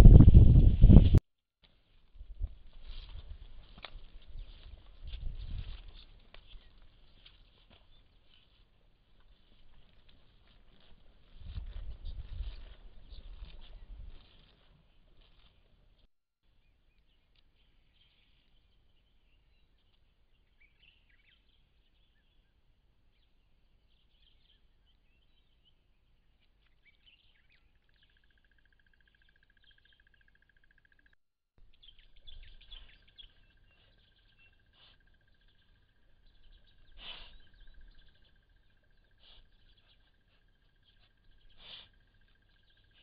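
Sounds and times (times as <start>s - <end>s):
faint birds chirping: 4.0s - 43.0s.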